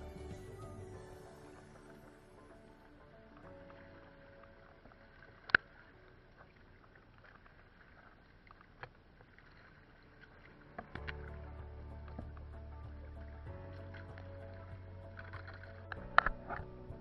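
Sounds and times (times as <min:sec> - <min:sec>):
water lapping and dripping: 0:00.0 - 0:17.0.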